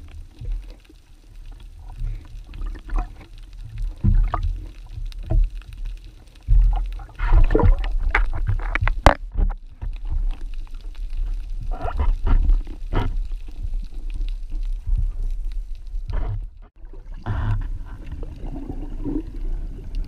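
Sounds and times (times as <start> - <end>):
bubbling gushes: 0.0 - 20.0
underwater water rumble: 0.0 - 20.0.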